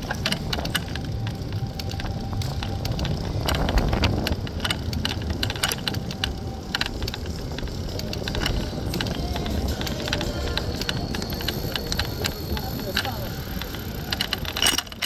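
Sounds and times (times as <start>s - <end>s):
bike rattling with clicks: 0.0s - 15.0s
wind rumble on microphone: 0.0s - 15.0s.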